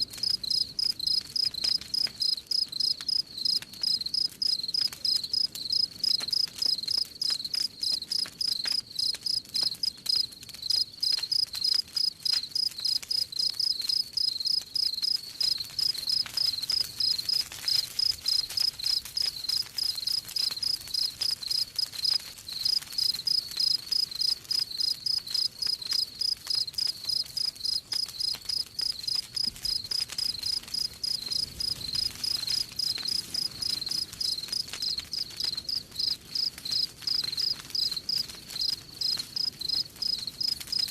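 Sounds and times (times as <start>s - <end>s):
wood fire crackling: 0.0s - 40.9s
crickets chirping: 0.2s - 40.9s.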